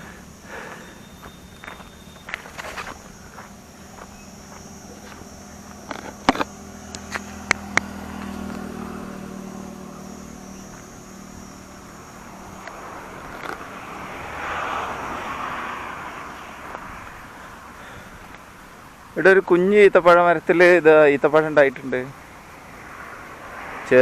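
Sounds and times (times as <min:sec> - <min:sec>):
rushing road noise: 0:00.0 - 0:24.0
vehicle engine passing: 0:00.0 - 0:24.0.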